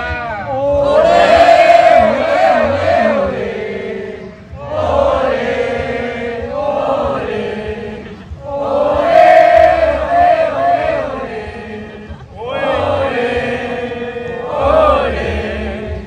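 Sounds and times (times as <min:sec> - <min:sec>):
voices chanting: 0:00.5 - 0:16.0.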